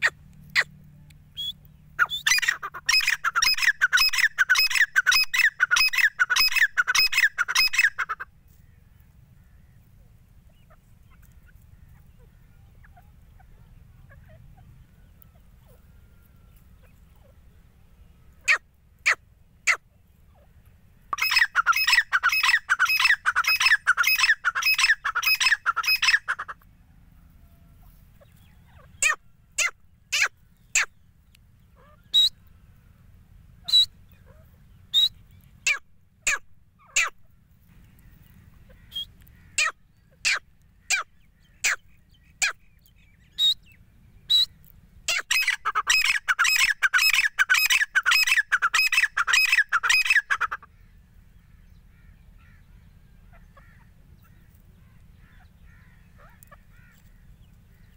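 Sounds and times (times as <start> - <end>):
francolins calling: 0.0 - 57.9.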